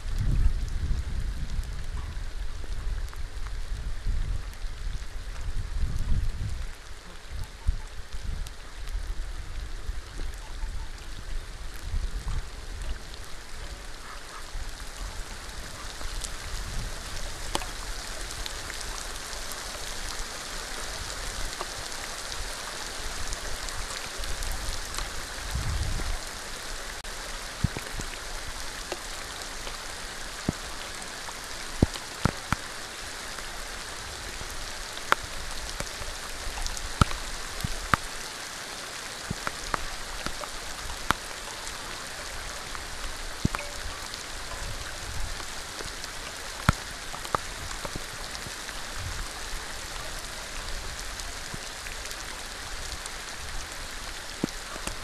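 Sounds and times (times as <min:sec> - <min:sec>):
rain falling on water: 0:00.0 - 0:55.0.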